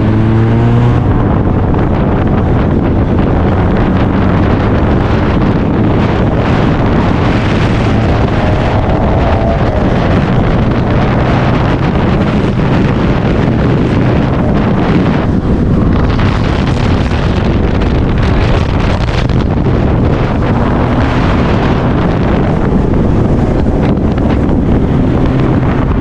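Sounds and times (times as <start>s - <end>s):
car engine hum: 0.0s - 26.0s
road noise: 0.0s - 26.0s
wind on microphone: 0.0s - 26.0s.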